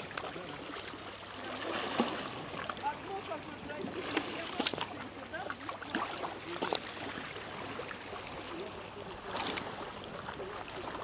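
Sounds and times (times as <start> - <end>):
sea water sloshing and splashing: 0.0 - 11.0.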